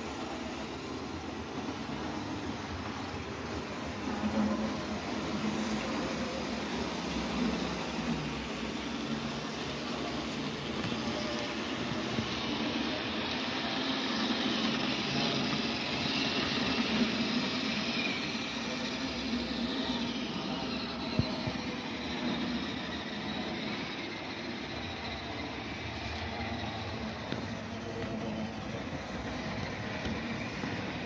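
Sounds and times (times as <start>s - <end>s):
model train motor whirring: 0.0s - 31.0s
wheels rolling over track: 0.0s - 31.0s.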